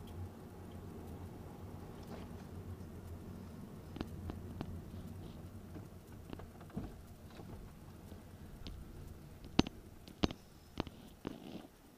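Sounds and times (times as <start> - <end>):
car tyre rolling on asphalt: 0.0 - 11.9.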